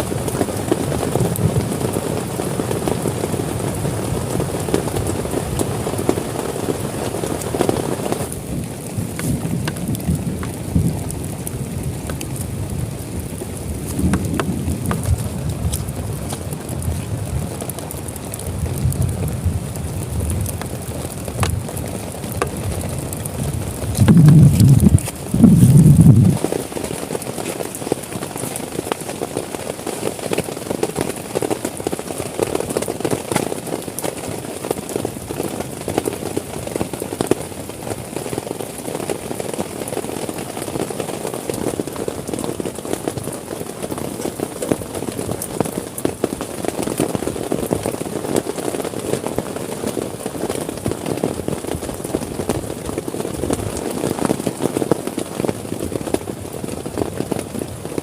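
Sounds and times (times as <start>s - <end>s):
heavy rain on a tent: 0.0s - 58.0s.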